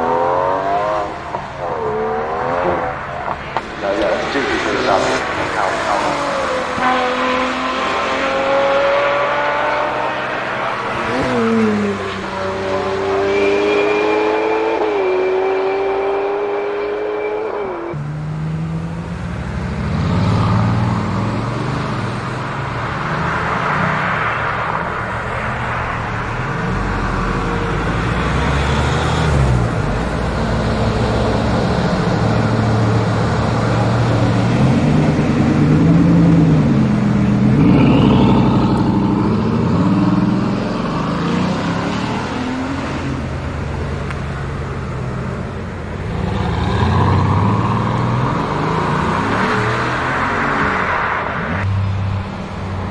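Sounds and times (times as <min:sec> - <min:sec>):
car engines revving: 0:00.0 - 0:52.9
tyre and road noise: 0:00.0 - 0:52.9.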